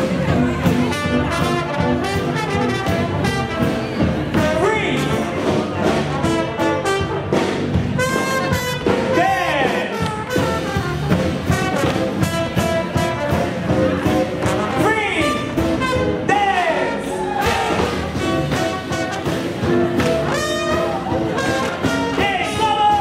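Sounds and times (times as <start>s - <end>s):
jazz band playing swing: 0.0s - 23.0s.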